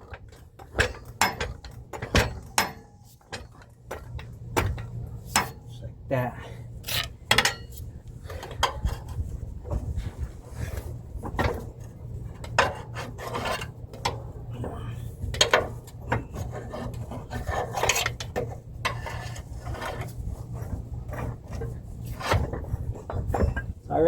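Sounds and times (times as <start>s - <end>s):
metal scraping and knocks: 0.0s - 5.8s, 6.8s - 23.9s
steady low hum: 0.0s - 24.0s.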